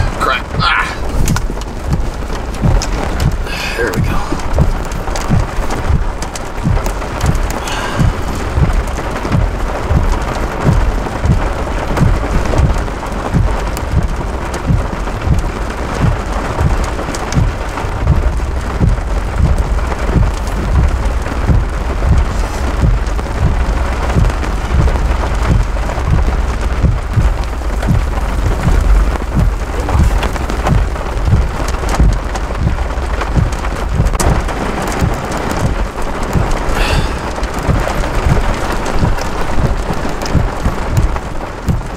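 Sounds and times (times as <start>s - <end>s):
heavy rain pelting down: 0.0s - 41.9s
raindrops thudding near microphone: 0.0s - 41.9s
steady low rumble: 0.0s - 41.9s.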